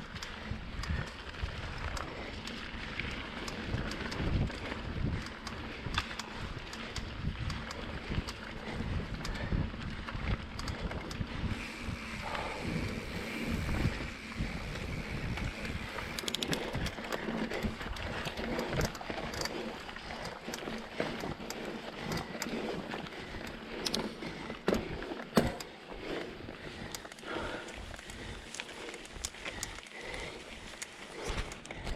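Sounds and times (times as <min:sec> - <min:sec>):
mountain bike tyre and frame noise: 0:00.0 - 0:31.9
small clicks and rattles: 0:00.0 - 0:31.9
wind buffeting microphone: 0:00.0 - 0:31.9.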